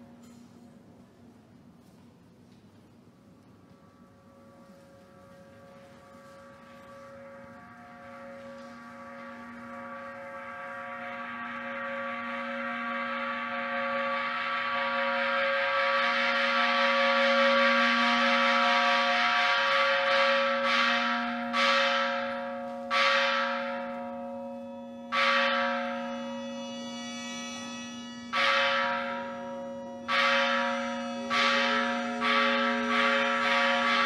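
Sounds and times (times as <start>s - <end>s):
temple bell ringing: 3.6s - 34.0s.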